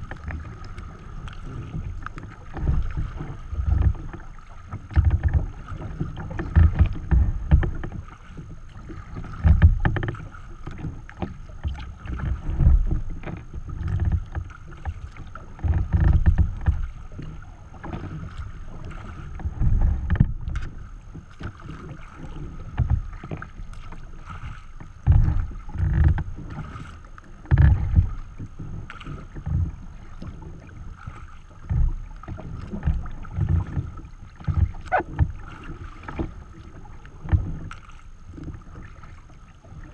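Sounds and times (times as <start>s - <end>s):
water splashing against kayak: 0.0s - 39.9s.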